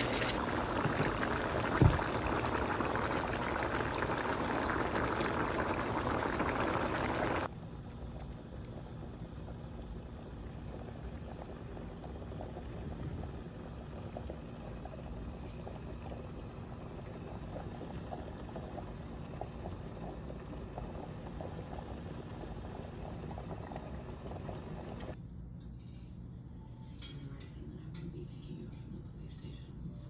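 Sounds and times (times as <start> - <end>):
stew bubbling and popping: 0.0 - 25.2.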